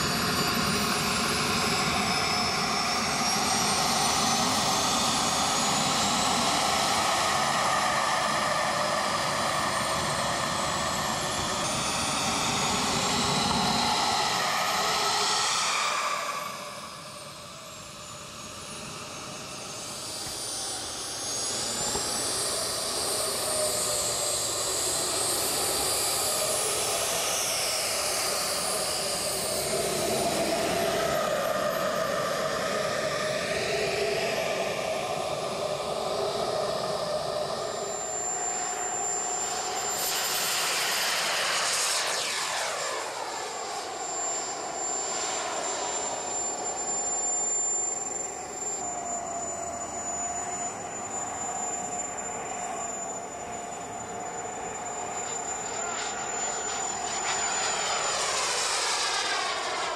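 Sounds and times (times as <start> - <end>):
model jet turbine whine: 0.0 - 59.9.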